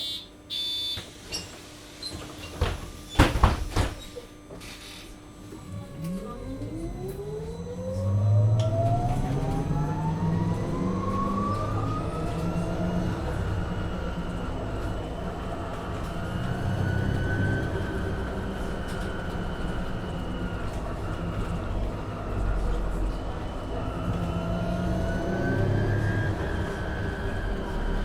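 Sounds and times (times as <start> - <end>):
bus electric drive whining: 4.4 - 28.0
diesel engine running: 5.5 - 28.0.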